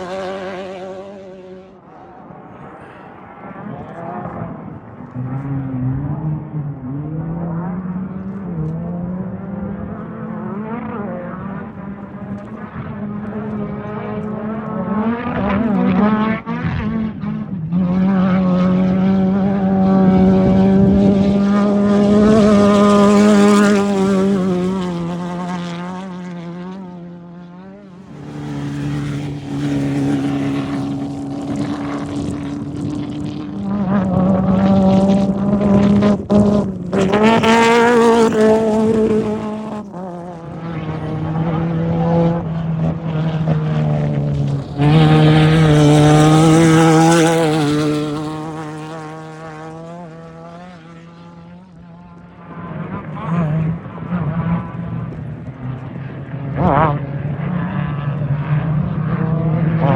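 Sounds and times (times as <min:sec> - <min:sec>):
race vehicle engines revving: 0:00.0 - 0:59.9.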